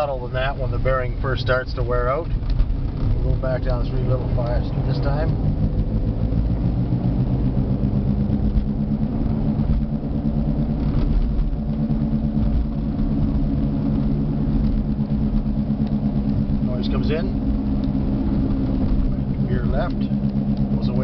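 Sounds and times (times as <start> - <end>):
road and engine noise: 0.0 - 21.0
wheel bearing growling: 0.0 - 21.0.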